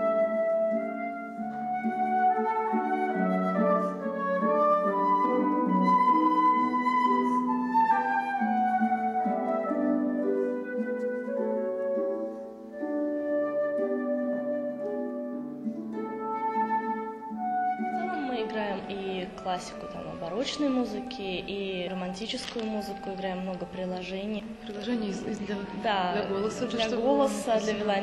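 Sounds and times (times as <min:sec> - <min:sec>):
flute melody: 0:00.0 - 0:24.1
harp plucking: 0:00.0 - 0:27.5.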